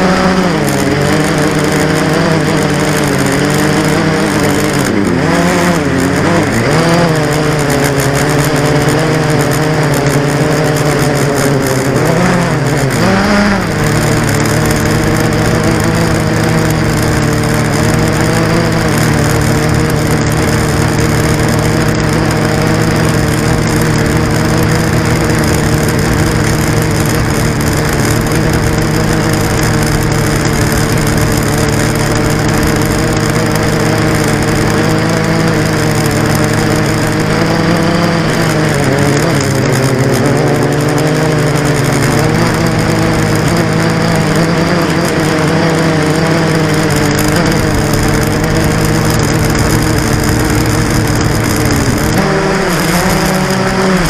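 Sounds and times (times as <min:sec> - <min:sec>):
drone motors and propellers whining: 0:00.0 - 0:54.0.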